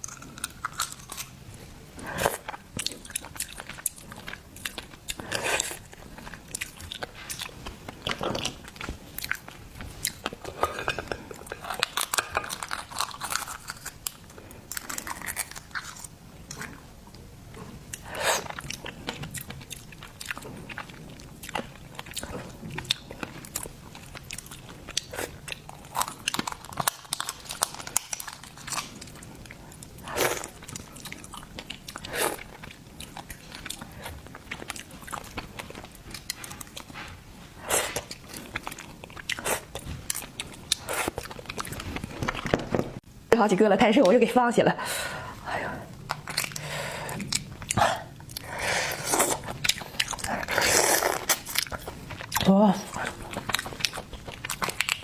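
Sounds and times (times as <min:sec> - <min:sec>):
wet chewing and crunching: 0:00.0 - 0:43.0, 0:45.1 - 0:55.0.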